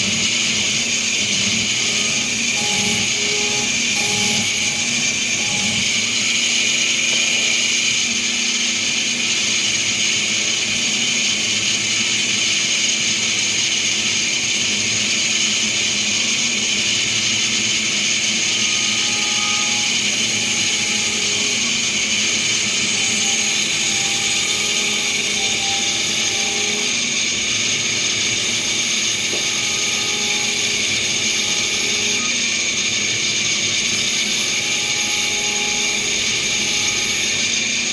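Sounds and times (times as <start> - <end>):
milling cutter whine: 0.0 - 11.8, 12.5 - 37.9.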